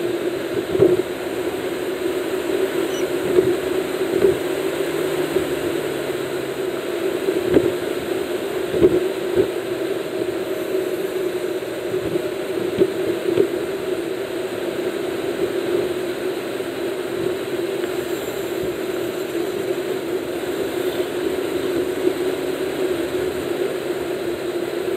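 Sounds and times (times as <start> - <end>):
vehicle engine drone and road noise: 0.0 - 24.9.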